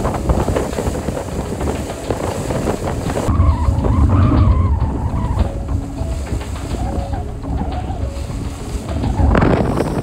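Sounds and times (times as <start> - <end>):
water rushing past hull: 0.0 - 10.0
wind buffeting microphone: 0.0 - 10.0.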